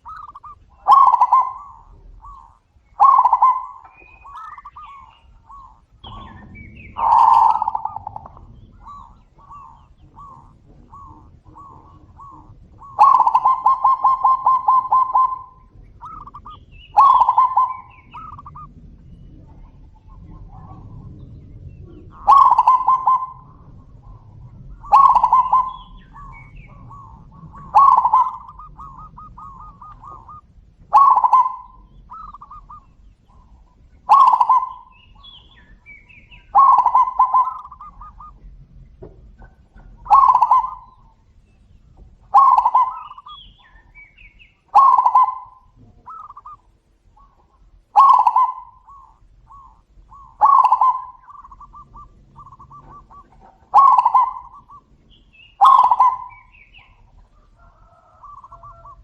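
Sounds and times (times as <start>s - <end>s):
doves cooing: 0.0s - 59.0s.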